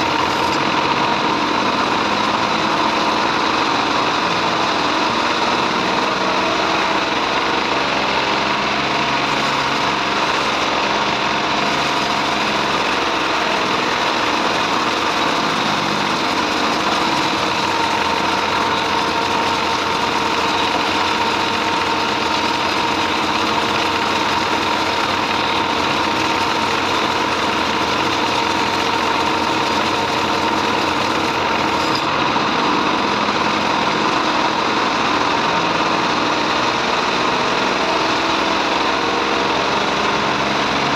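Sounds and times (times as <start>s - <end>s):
band saw drone and whine: 0.0s - 40.9s.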